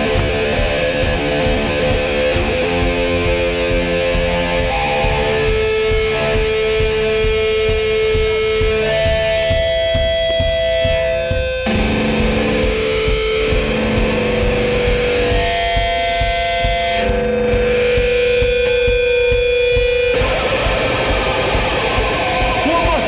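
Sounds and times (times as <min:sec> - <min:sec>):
live punk band playing: 0:00.0 - 0:23.0.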